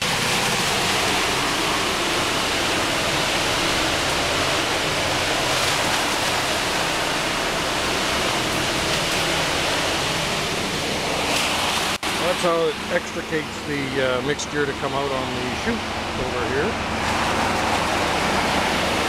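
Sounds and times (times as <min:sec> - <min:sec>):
concrete churning in mixer drum: 0:00.0 - 0:19.0
truck engine running low: 0:00.0 - 0:19.0.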